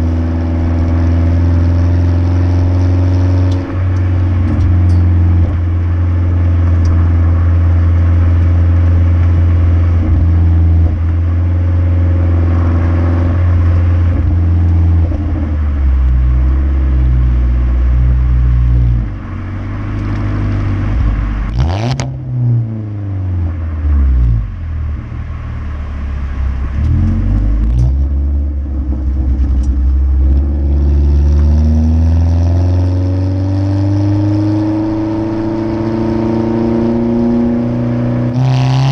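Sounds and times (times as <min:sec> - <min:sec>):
exhaust crackles: 0:00.0 - 0:33.4
car exhaust droning while driving: 0:00.0 - 0:38.9.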